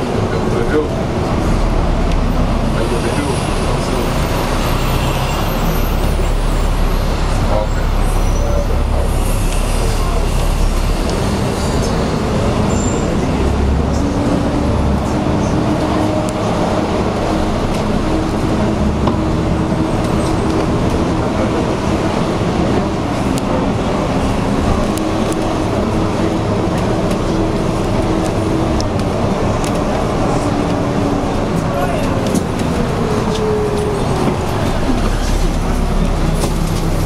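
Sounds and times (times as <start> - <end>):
bus engine droning hum: 0.0 - 37.0
traffic noise: 0.0 - 37.0.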